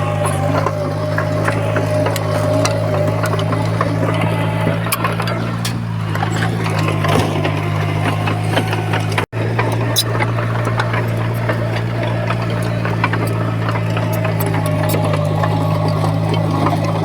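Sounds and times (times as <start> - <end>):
clicks and rattles: 0.0 - 17.0
heavy diesel engine running: 0.0 - 17.0.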